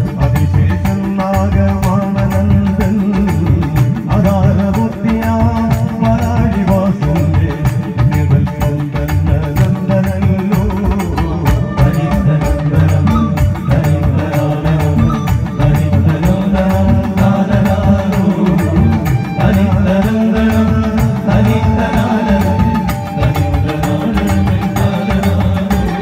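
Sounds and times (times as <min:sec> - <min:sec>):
driving percussion beat: 0:00.0 - 0:26.0
sung melody: 0:00.0 - 0:26.0
tabla: 0:00.0 - 0:26.0.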